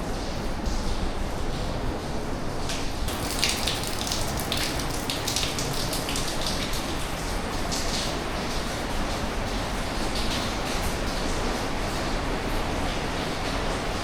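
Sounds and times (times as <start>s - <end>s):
water dripping and splashing: 2.6s - 14.0s.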